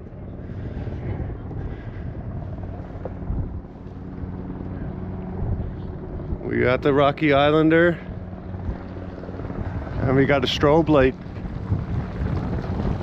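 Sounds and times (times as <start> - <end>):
faint humming tones: 0.0 - 13.0
low engine rumble: 0.0 - 13.0
wind buffeting microphone: 0.0 - 13.0.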